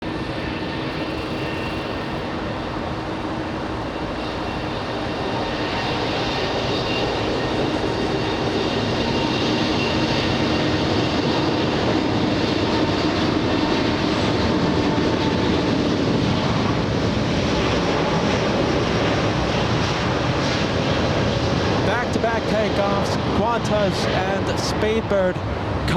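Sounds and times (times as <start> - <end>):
jet engines roaring with whine: 0.0 - 25.9.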